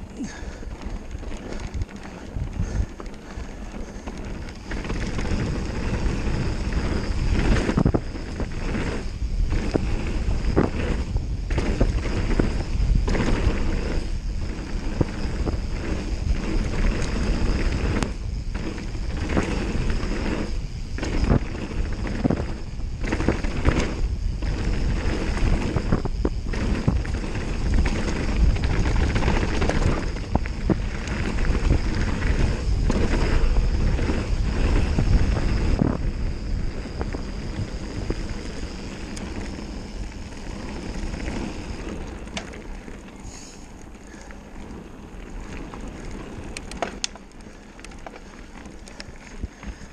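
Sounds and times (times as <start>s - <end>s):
wind on microphone: 0.0s - 43.3s
bike knocking and rattling: 0.0s - 49.9s
tyres rolling over gravel: 0.0s - 49.9s.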